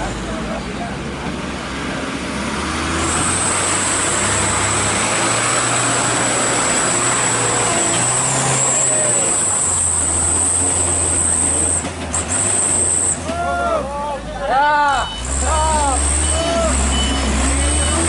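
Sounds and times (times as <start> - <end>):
road noise: 0.0 - 18.0
truck engines idling in traffic: 0.0 - 18.0.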